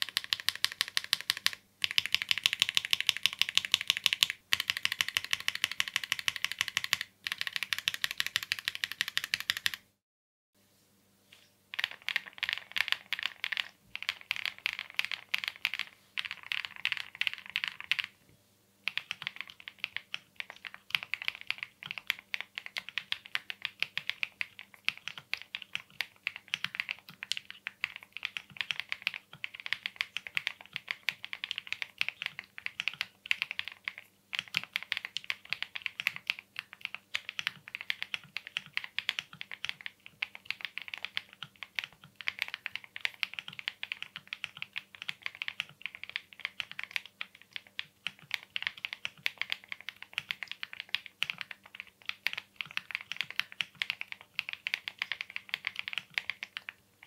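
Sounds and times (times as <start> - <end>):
fast mechanical keyboard typing: 0.0 - 9.9, 11.7 - 18.1, 18.8 - 56.8.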